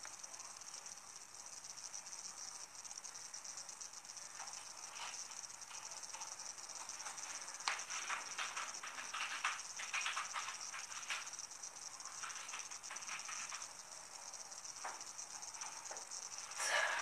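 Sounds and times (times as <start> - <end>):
high-pitched insect chirring: 0.0 - 17.0
soft crackles: 0.0 - 17.0.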